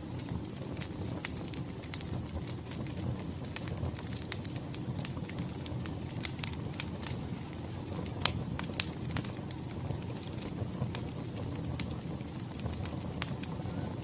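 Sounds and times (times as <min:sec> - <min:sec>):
low rumble of burning logs: 0:00.0 - 0:14.0
wood fire crackling: 0:00.0 - 0:14.0.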